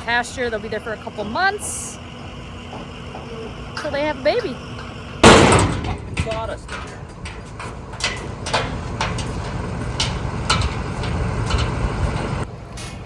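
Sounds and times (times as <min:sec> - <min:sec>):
hooves knocking on trailer: 0:00.0 - 0:12.5.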